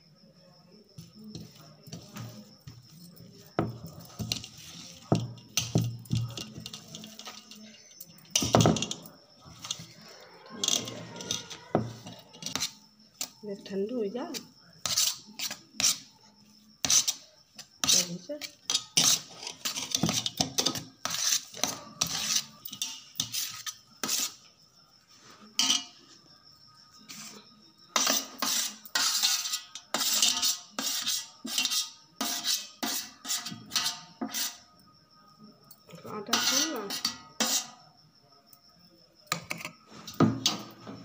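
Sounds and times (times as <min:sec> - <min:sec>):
metal spoon scraping a steel plate: 0:01.3 - 0:13.4, 0:14.3 - 0:16.1, 0:16.8 - 0:24.5, 0:25.5 - 0:26.1, 0:27.1 - 0:34.8, 0:35.9 - 0:37.8, 0:39.3 - 0:41.0.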